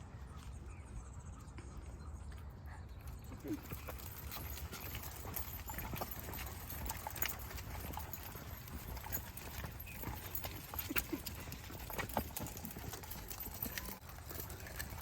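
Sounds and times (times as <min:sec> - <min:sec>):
footsteps and paw-falls on a path: 0:00.2 - 0:15.0.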